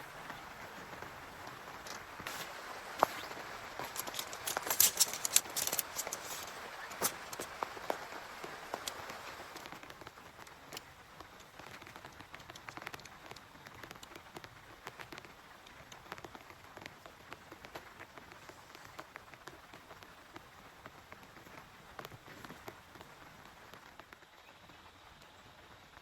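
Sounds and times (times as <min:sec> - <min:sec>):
rain hiss: 0:00.0 - 0:26.0
raindrops tapping: 0:00.0 - 0:26.0.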